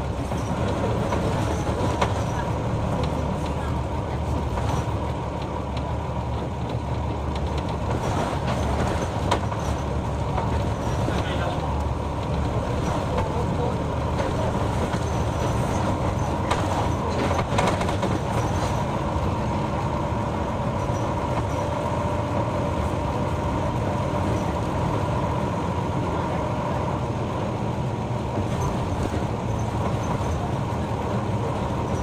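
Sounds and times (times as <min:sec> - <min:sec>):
bus diesel engine drone: 0:00.0 - 0:32.0
road noise: 0:00.0 - 0:32.0.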